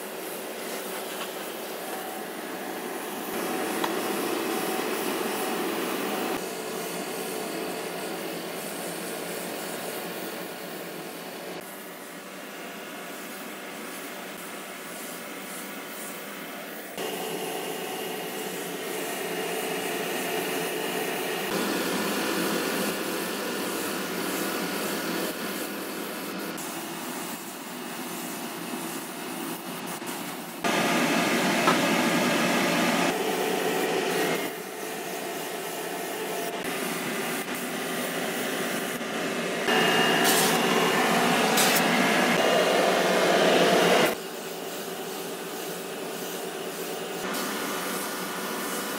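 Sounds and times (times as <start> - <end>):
paint spray gun hissing: 0.0 - 39.0, 39.6 - 48.9.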